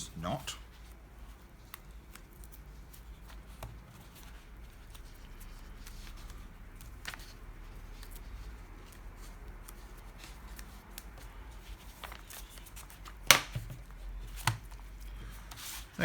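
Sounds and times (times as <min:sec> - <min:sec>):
paper booklet rustling: 0:00.0 - 0:16.0.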